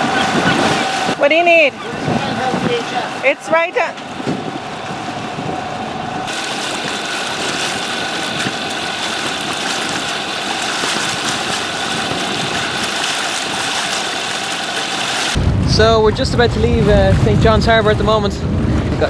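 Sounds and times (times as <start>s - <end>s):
boat engine running steadily: 0.0s - 19.0s
water rushing along hull: 0.0s - 19.0s.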